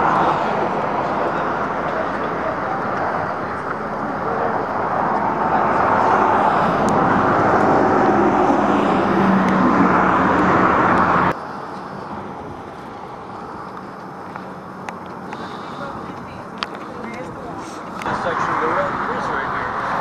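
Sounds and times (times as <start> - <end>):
vehicle engine and tyres: 0.0 - 20.0.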